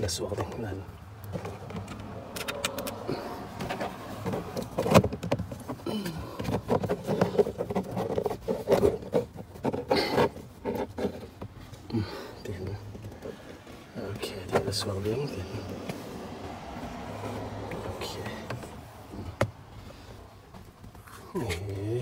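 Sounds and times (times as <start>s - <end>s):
plastic clatter and rubbing: 0.0s - 21.8s.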